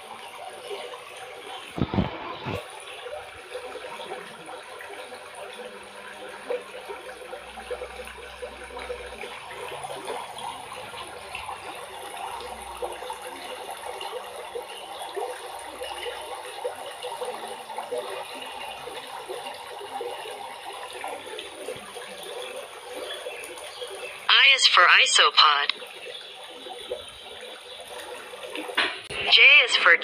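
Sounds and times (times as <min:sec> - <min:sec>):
aquarium water trickling and bubbling: 0:00.0 - 0:30.0.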